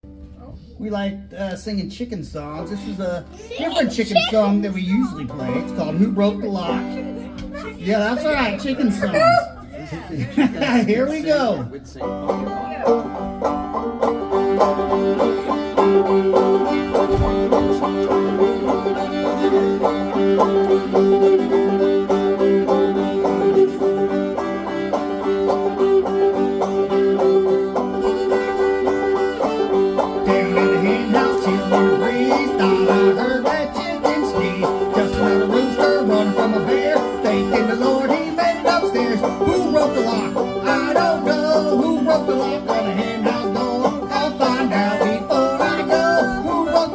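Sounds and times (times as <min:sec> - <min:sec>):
bluegrass string band playing: 0:00.0 - 0:46.9
picked banjo: 0:00.0 - 0:46.9.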